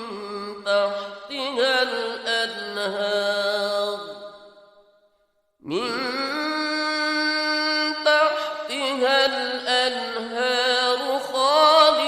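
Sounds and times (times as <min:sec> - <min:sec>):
person reciting melodically: 0:00.0 - 0:04.3, 0:05.6 - 0:12.0.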